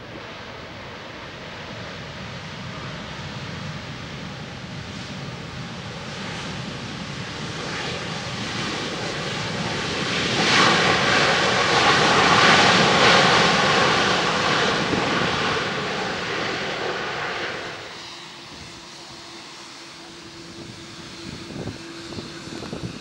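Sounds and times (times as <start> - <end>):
jet airliner engines passing: 0.0 - 23.0.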